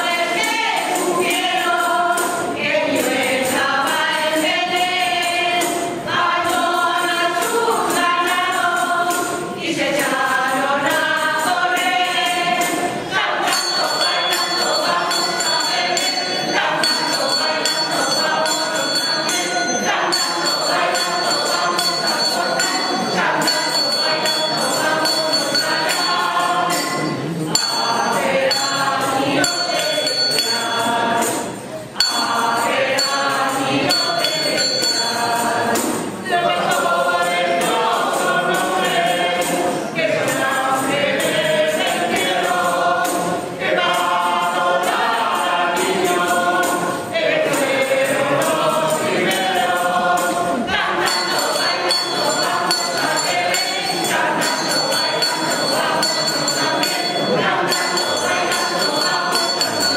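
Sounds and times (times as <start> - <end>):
mixed choir singing a carol: 0.0 - 59.9.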